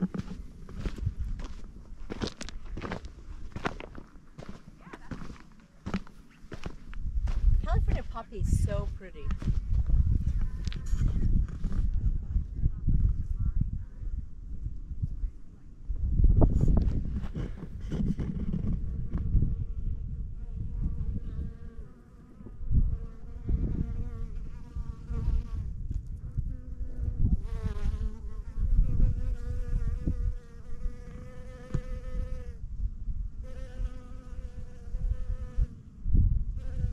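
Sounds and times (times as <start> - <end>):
wind rumble on microphone: 0.0 - 4.6, 6.5 - 36.9.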